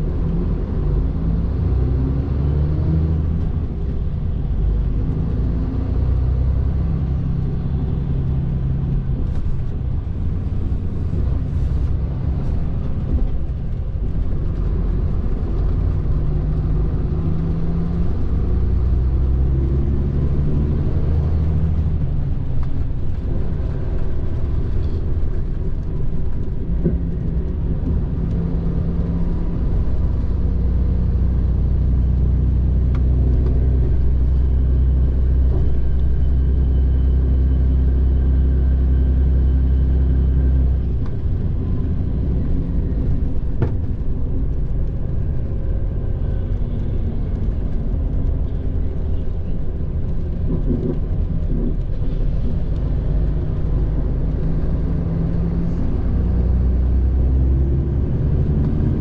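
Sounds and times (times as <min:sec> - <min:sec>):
diesel engine and tyres rumbling: 0:00.0 - 0:59.0
engine hum: 0:00.0 - 0:59.0.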